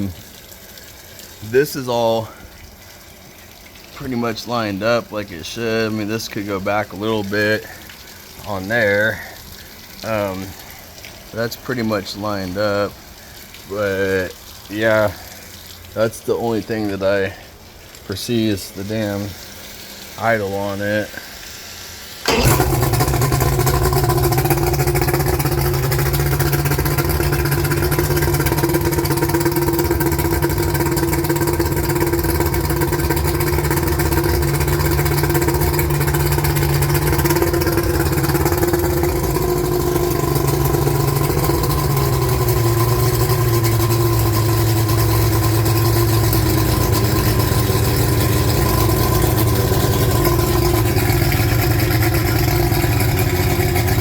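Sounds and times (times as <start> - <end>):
outboard motor idling: 0.0 - 17.6, 22.2 - 54.0.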